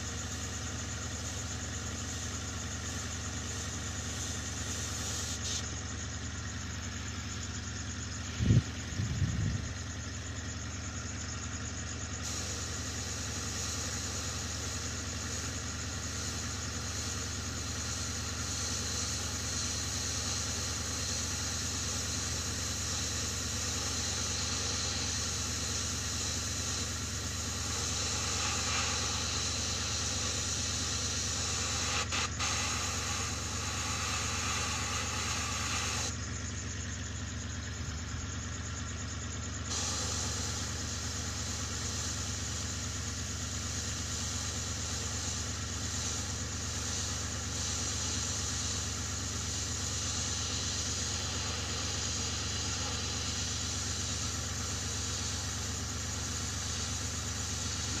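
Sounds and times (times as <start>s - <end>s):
airbrush hissing: 0.0s - 5.8s, 10.4s - 37.4s, 39.5s - 58.0s
air compressor humming: 0.0s - 58.0s.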